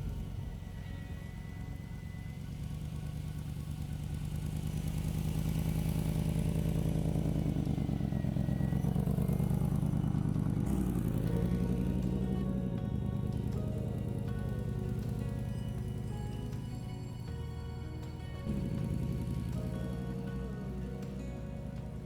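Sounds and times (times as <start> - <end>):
vehicle engine throbbing: 0.0 - 22.0.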